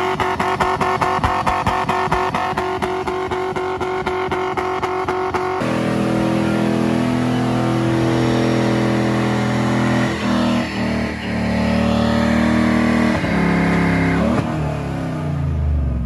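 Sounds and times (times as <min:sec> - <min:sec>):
engine at high revs: 0:00.0 - 0:16.0.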